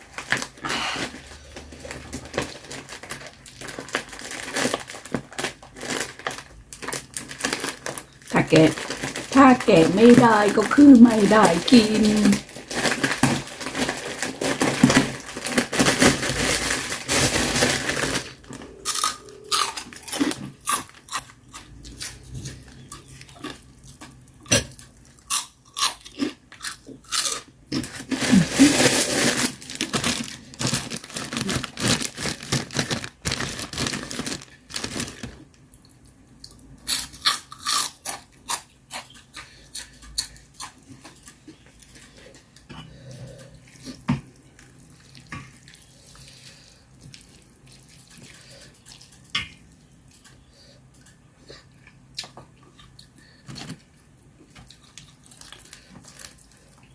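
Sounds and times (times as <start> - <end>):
crunching and chewing: 0.0 - 9.4, 12.0 - 56.9.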